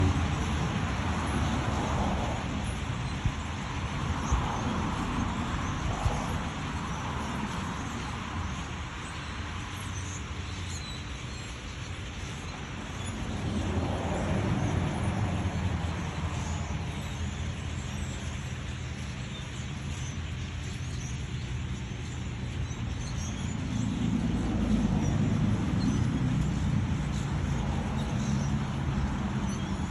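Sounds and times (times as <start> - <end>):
birds chirping: 0.0 - 29.9
road traffic rumble: 0.0 - 29.9.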